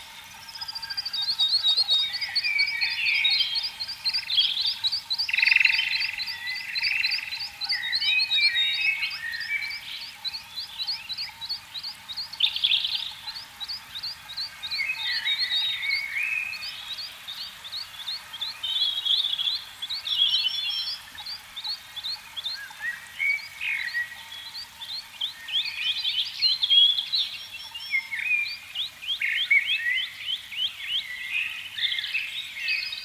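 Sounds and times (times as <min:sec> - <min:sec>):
frogs warbling calls: 0:00.0 - 0:27.8
frogs chirping: 0:00.0 - 0:31.1.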